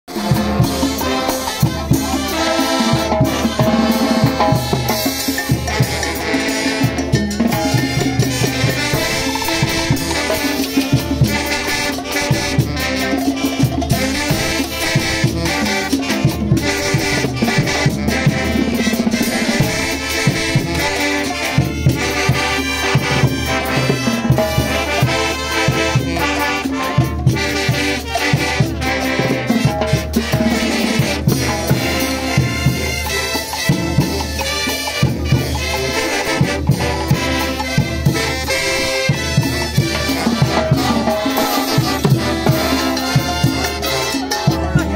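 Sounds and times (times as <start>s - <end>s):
brass horns playing tune: 0.1s - 44.9s
snare and bass drums: 0.1s - 44.9s.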